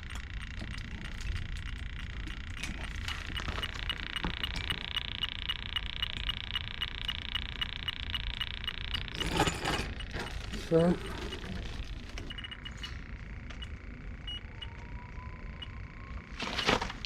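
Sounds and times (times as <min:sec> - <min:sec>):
leak detector beeping: 0:00.0 - 0:17.0.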